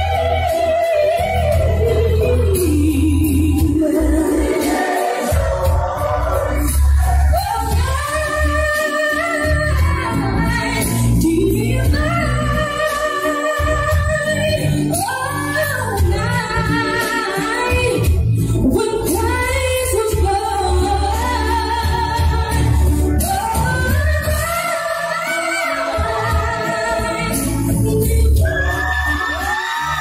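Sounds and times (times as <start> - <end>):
backing track with heavy bass: 0.0 - 30.0
woman singing into microphone: 0.0 - 30.0.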